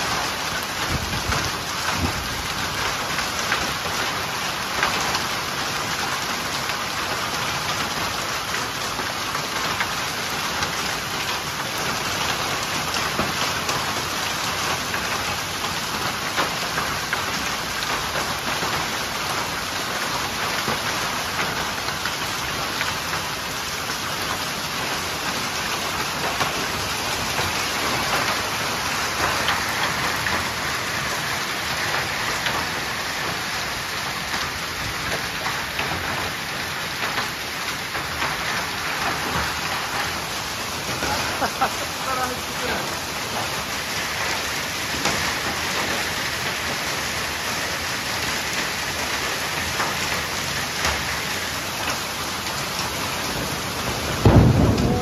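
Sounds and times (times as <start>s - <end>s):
hailstones ticking on asphalt: 0.0s - 55.0s
heavy rain hiss: 0.0s - 55.0s.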